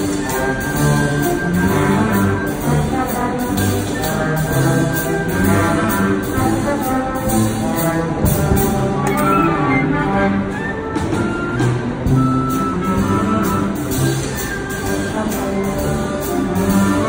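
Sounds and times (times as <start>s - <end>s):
military band playing: 0.0s - 17.0s.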